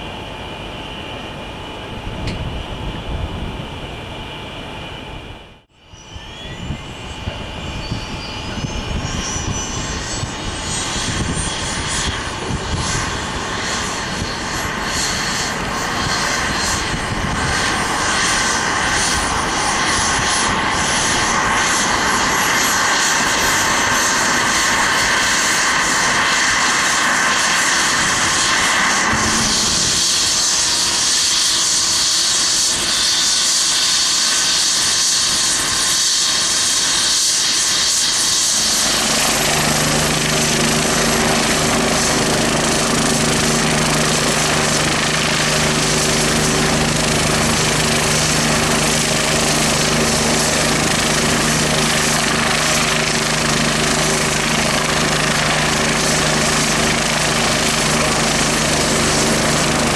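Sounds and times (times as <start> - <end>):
helicopter rotor running: 0.0 - 59.9
helicopter turbine whine: 0.0 - 59.9.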